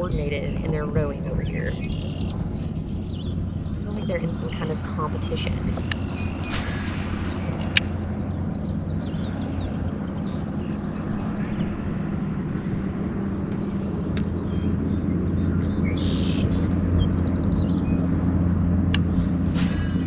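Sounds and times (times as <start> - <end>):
small birds chirping: 0.0 - 11.8, 13.0 - 18.1
low engine drone: 0.0 - 20.0.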